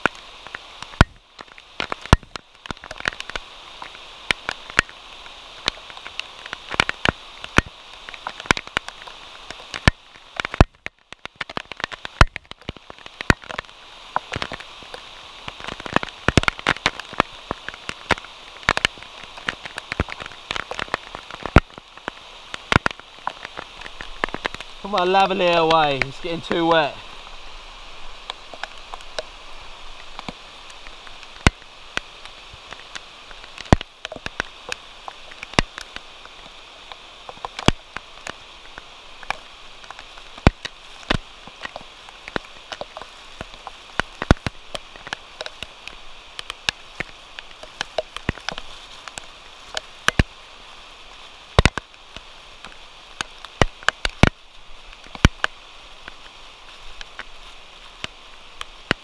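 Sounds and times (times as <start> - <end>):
raindrops ticking close by: 0.0 - 59.0
steady rain hiss: 0.0 - 59.0.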